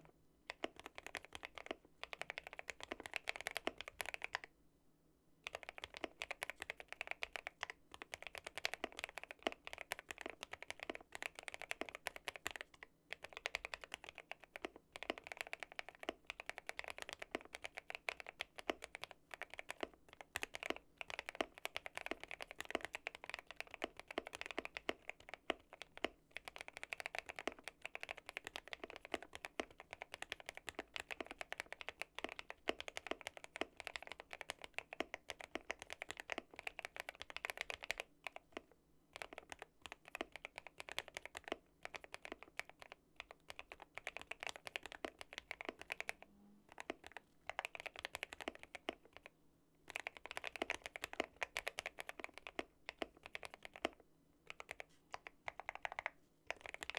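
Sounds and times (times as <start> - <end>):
mechanical keyboard typing: 0.0 - 4.5, 5.4 - 49.3, 49.9 - 56.9.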